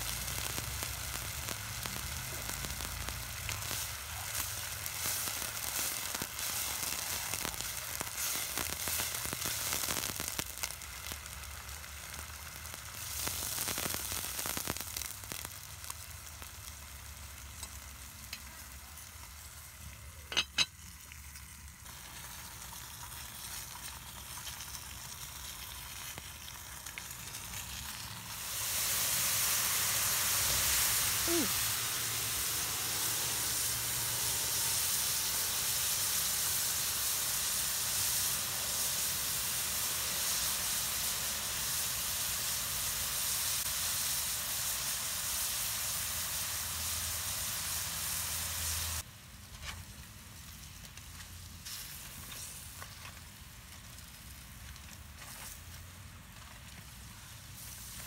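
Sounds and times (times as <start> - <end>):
food sizzling in a skillet: 0.0 - 58.0.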